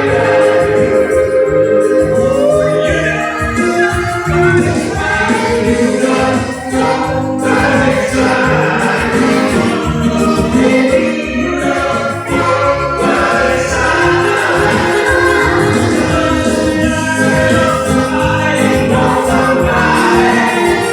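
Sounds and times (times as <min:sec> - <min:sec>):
band playing pop music: 0:00.0 - 0:20.9
electric keyboard: 0:00.0 - 0:20.9
singers singing: 0:00.0 - 0:20.9.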